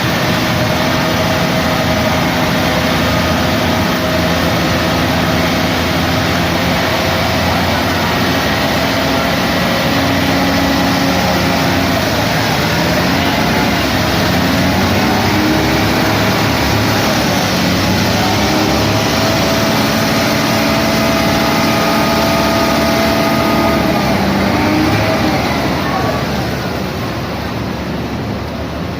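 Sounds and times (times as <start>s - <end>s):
heavy diesel engines running: 0.0s - 28.9s.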